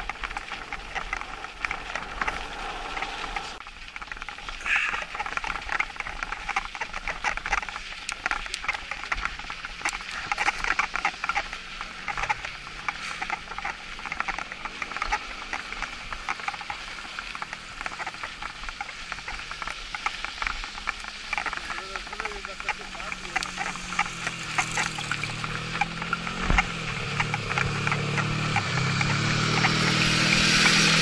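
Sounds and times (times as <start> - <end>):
bike tyres crunching over snow: 0.0 - 31.0.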